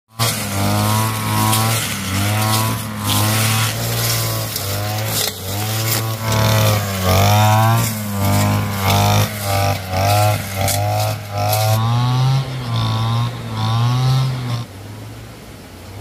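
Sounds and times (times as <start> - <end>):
lawn mower engine running: 0.1 - 14.7.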